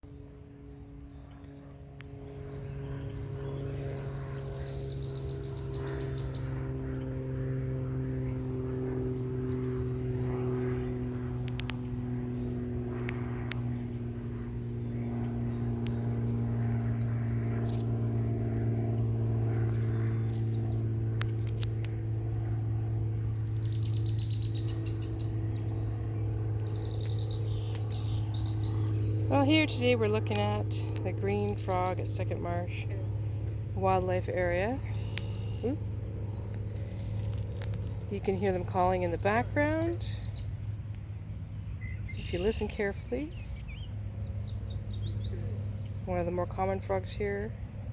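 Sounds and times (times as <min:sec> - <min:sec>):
birds chirping: 0:00.0 - 0:47.9
low engine drone: 0:00.0 - 0:47.9.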